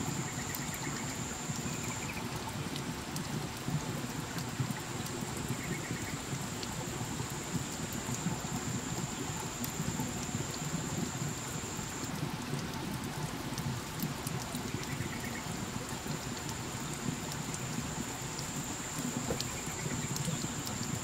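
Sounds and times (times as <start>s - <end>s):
water dripping on rock and leaves: 0.0s - 21.0s.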